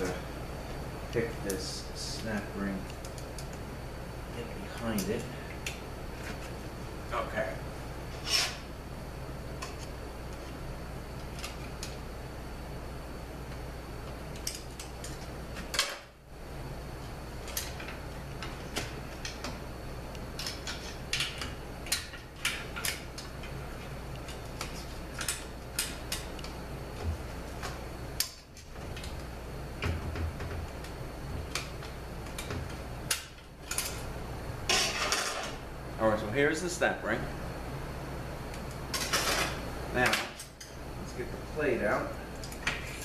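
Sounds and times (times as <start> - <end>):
low shop hum: 0.0 - 43.0.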